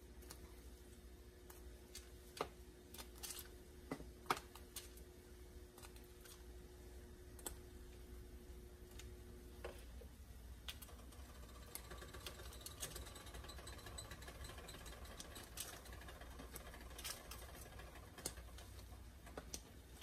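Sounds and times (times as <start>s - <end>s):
broth boiling with small pops: 0.0s - 20.0s
low steady hum: 0.0s - 20.0s.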